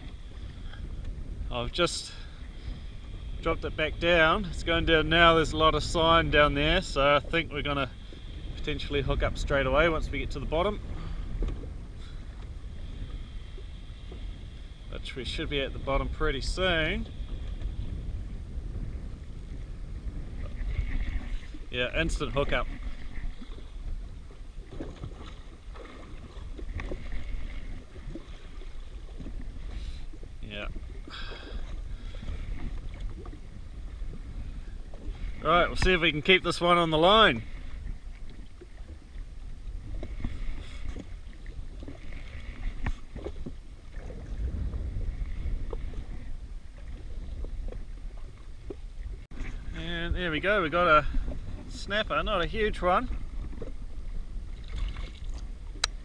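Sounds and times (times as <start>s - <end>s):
water slapping against hull: 0.0s - 56.0s
wind buffeting microphone: 0.0s - 56.0s.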